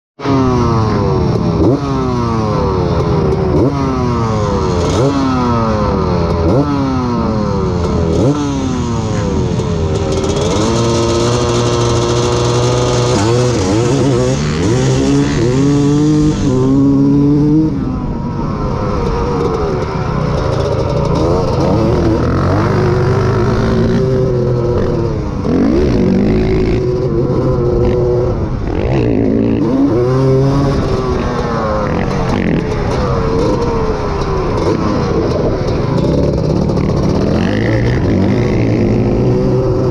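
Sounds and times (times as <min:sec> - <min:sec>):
other engines racing: 0:00.2 - 0:39.9
two-stroke engine racing: 0:00.2 - 0:39.9.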